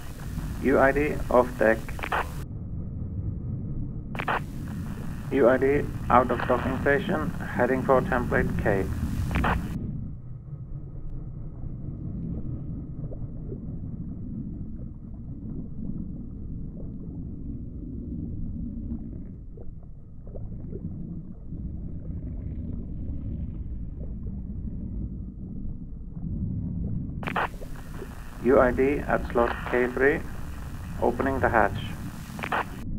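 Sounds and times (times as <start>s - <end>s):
faint gurgles: 0.0s - 2.5s, 4.2s - 10.1s, 10.8s - 32.9s
low underwater rumble: 0.0s - 32.9s.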